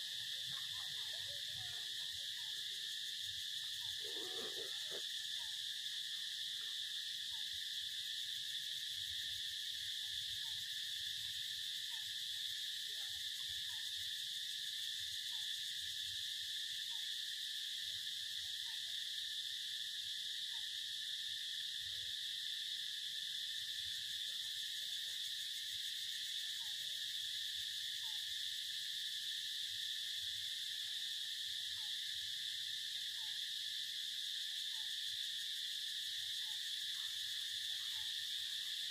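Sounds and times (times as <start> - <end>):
faint short insect calls: 0.0 - 38.9
insect chorus drone: 0.0 - 38.9.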